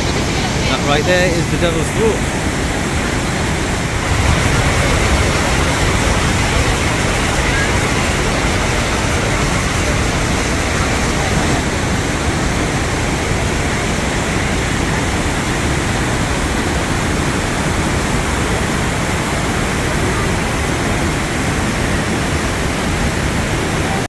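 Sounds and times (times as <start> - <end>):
heavy waterfall rushing: 0.0 - 24.0.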